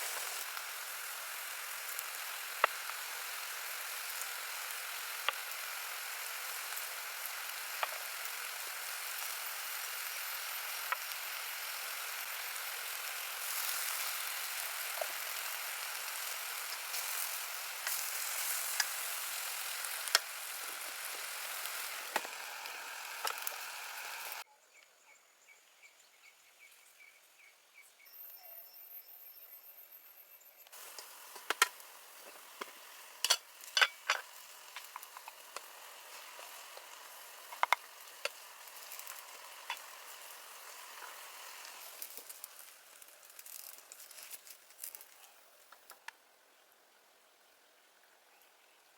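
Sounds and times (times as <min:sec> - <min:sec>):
food sizzling in hot oil: 0:00.0 - 0:24.4, 0:29.3 - 0:46.0.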